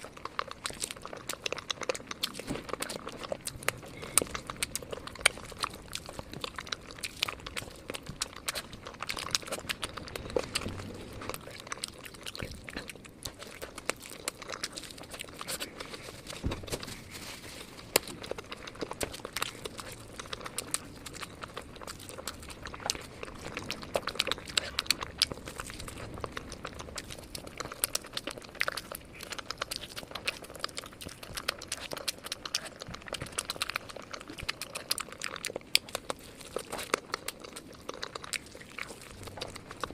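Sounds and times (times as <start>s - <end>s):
crunchy fried chicken chewing: 0.0s - 39.9s.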